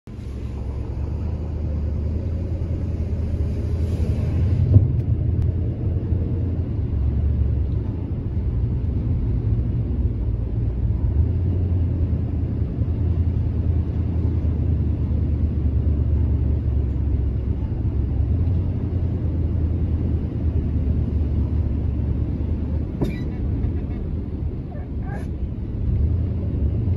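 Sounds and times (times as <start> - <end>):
car engine and tyres rumbling: 0.0 - 26.9.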